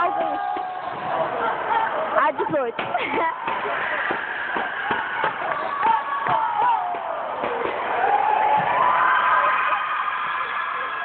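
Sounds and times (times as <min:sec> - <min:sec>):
crowd cheering and yelling: 0:00.0 - 0:11.0.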